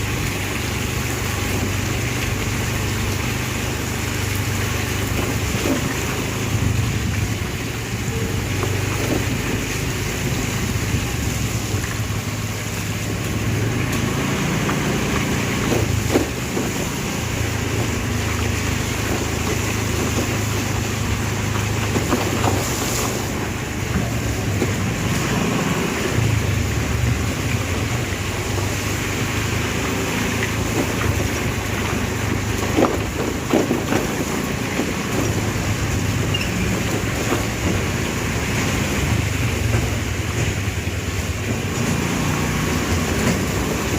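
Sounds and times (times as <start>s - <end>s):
vehicle engines running: 0.0s - 43.9s.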